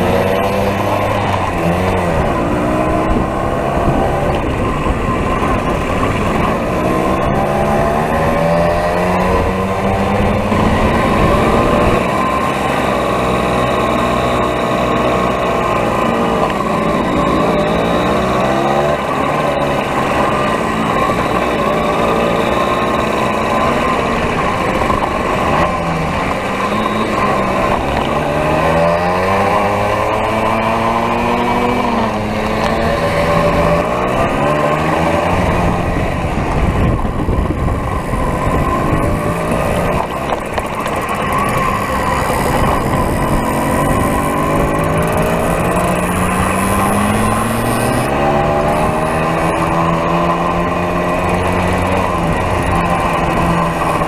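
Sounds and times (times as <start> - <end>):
moped two-stroke engine running: 0.0 - 54.0.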